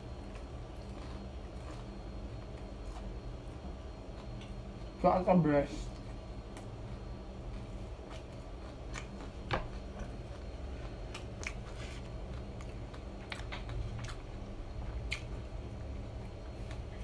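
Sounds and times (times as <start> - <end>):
crispy food crackling while chewing: 0.0 - 17.0
low steady hum: 0.0 - 17.0.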